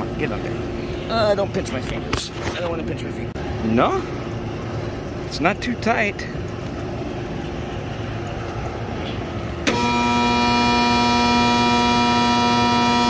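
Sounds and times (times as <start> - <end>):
blower motor humming: 0.0 - 13.0.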